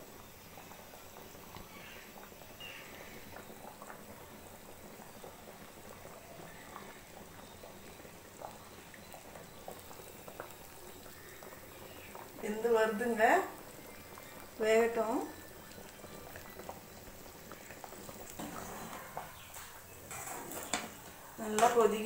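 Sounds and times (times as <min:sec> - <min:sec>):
curry bubbling in a pot: 0:00.0 - 0:22.0
bubbles popping: 0:00.6 - 0:19.5.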